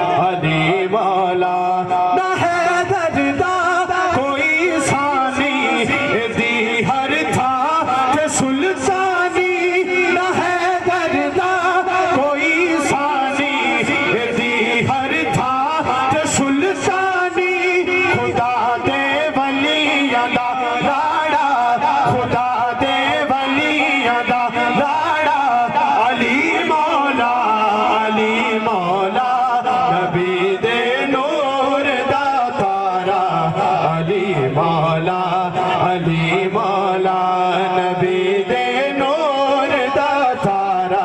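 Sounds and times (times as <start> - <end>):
man singing into a microphone: 0.0 - 41.0.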